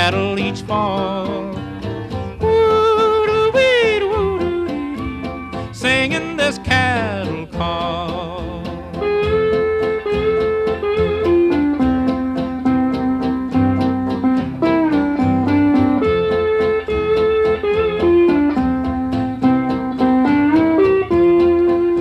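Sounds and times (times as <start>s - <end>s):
bass guitar: 0.0s - 22.0s
steel guitar sliding melody: 0.0s - 22.0s
strummed guitar: 0.0s - 22.0s.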